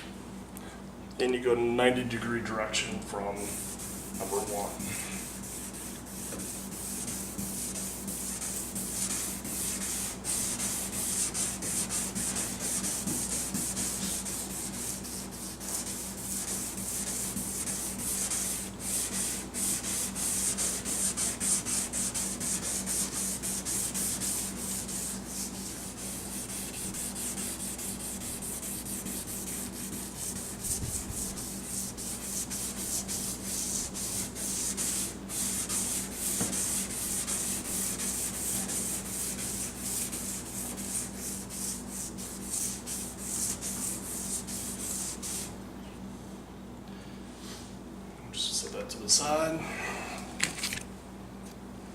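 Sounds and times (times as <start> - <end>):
pad wet-sanding plastic: 3.4 - 45.5.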